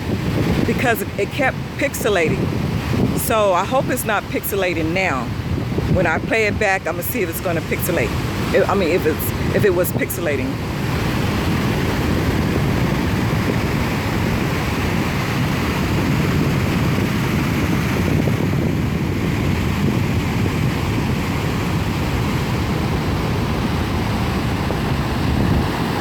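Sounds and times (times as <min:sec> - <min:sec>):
ocean surf: 0:00.0 - 0:26.0
wind buffeting microphone: 0:00.0 - 0:26.0.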